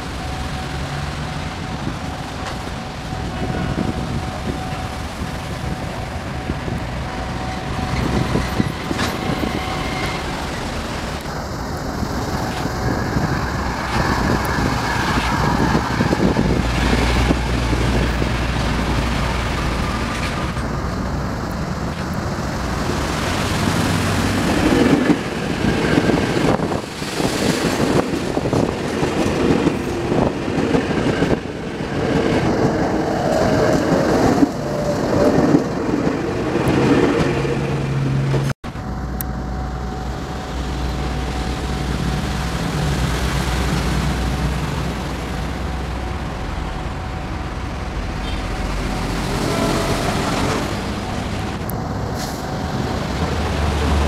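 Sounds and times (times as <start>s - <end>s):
train wheels rumbling on rails: 0.0s - 54.0s
train whining tone: 0.0s - 54.0s.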